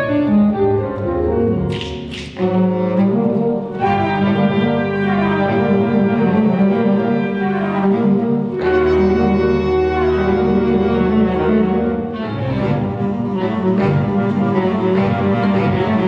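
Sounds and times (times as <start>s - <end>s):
symphonic band playing: 0.0s - 16.0s
alto saxophone solo: 2.4s - 16.0s.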